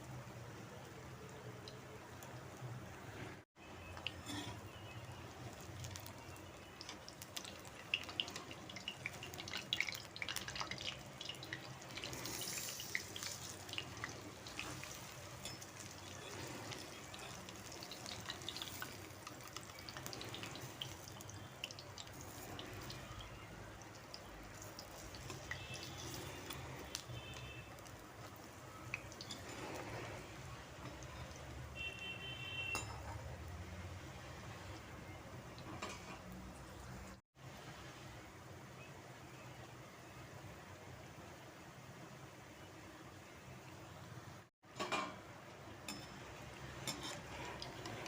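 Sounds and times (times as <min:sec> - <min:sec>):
batter frying in hot oil: 0:00.0 - 0:48.0.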